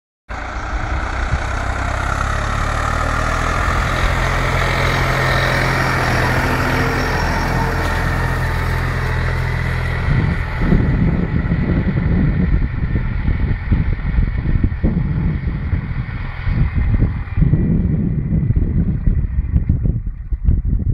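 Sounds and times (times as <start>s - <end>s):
tractor diesel engine under load: 0.3s - 20.9s
wind buffeting microphone: 0.6s - 20.9s.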